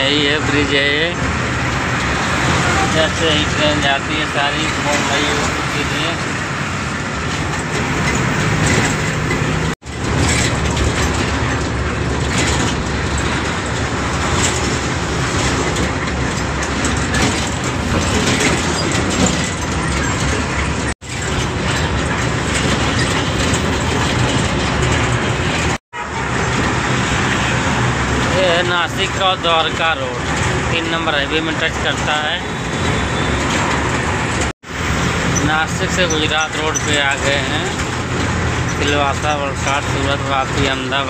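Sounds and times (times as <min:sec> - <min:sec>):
cab rattling: 0:00.0 - 0:41.0
truck engine running: 0:00.0 - 0:41.0.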